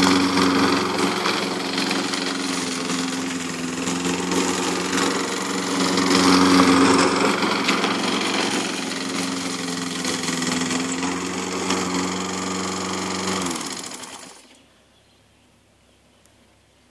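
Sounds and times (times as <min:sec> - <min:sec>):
lawn mower engine running: 0:00.0 - 0:14.6.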